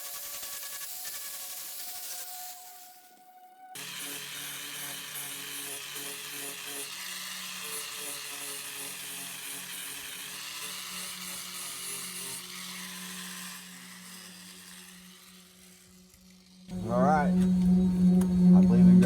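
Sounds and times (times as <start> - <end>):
power grinder grinding fiberglass: 0.0 - 19.0.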